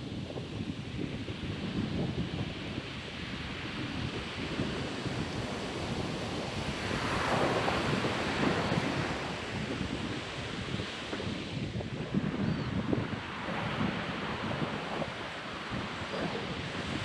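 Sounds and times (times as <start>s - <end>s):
surf washing on a beach: 0.0s - 17.0s
wind buffeting the microphone: 0.0s - 17.0s.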